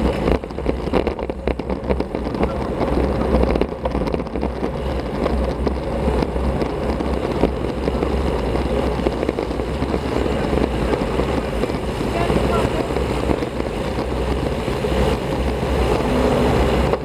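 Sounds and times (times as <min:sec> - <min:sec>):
bicycle rattles and clicks: 0:00.0 - 0:17.0
road noise: 0:00.0 - 0:17.0
wind rumble on microphone: 0:00.0 - 0:17.0.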